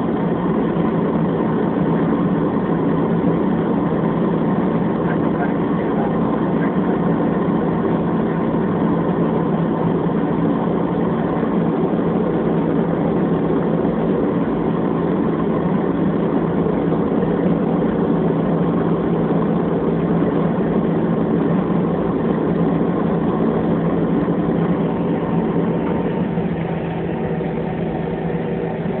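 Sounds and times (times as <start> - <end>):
airliner engines in cabin: 0.0 - 29.0.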